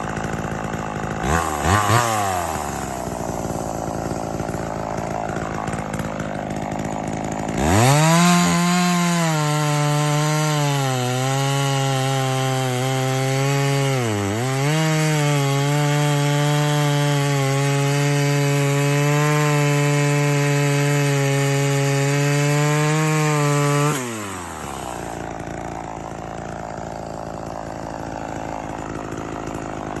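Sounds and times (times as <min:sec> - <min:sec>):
chainsaw idling and revving: 0:00.0 - 0:30.0.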